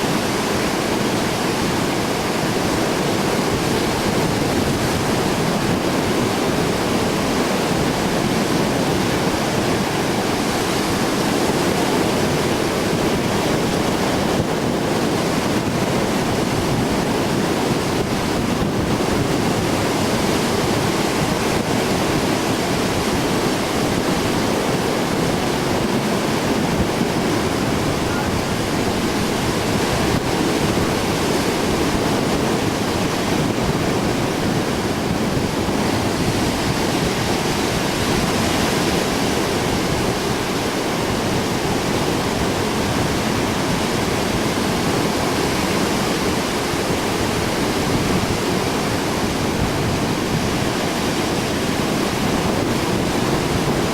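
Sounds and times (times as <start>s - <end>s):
heavy surf breaking: 0.0s - 53.9s
wind gusts over microphone: 0.0s - 53.9s.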